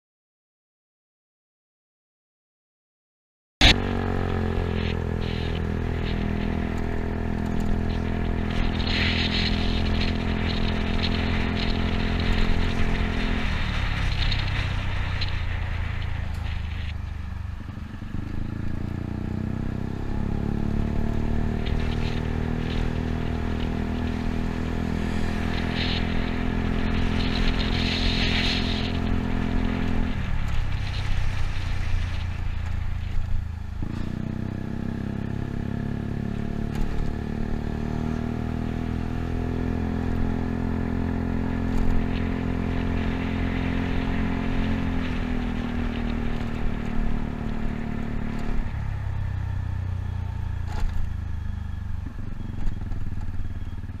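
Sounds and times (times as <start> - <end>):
scooter engine running: 3.6 - 39.4, 40.0 - 54.0
wind and road noise: 3.6 - 54.0.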